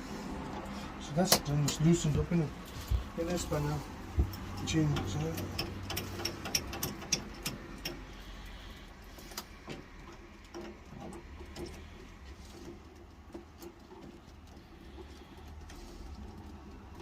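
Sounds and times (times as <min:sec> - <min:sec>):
hand tools clicking and tapping: 0:02.8 - 0:17.0.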